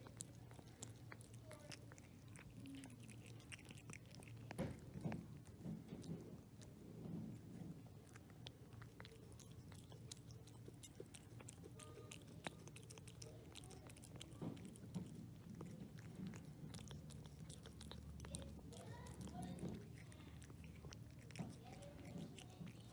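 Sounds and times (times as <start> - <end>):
cat chewing and licking: 0.0 - 22.9.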